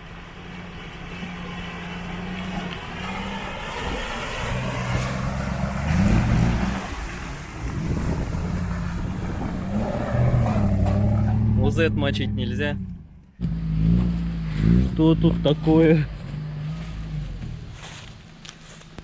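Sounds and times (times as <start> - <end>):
off-road vehicle engine revving: 0.0 - 18.9.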